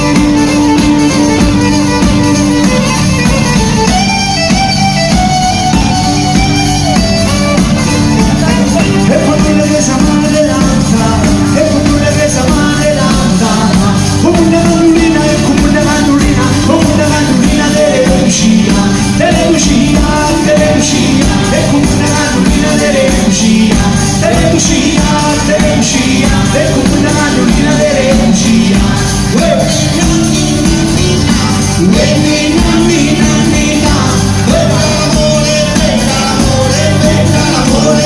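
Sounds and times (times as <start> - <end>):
accordion: 0.0 - 38.0
frame drums beating: 0.0 - 38.0
guitar: 0.0 - 38.0
violin: 0.0 - 38.0
voices singing: 0.0 - 38.0.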